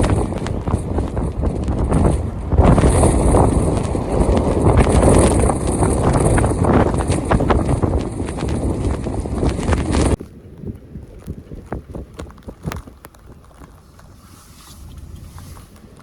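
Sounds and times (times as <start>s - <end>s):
blizzard wind buffeting microphone: 0.0s - 16.0s
sharp crackles and ticks: 0.0s - 16.0s.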